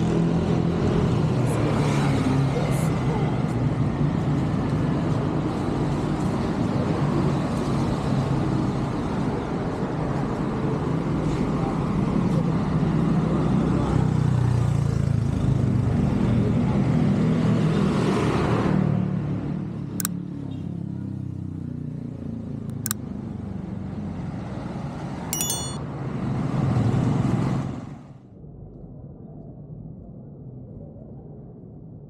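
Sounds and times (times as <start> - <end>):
cars passing on road: 0.0 - 28.2.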